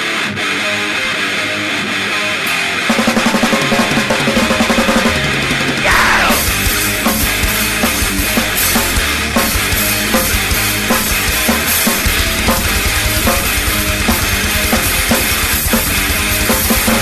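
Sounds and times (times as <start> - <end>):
bass guitar: 0.0 - 17.0
distorted electric guitar riffing: 0.0 - 17.0
guitar slide: 0.0 - 17.0
drum kit: 2.5 - 17.0.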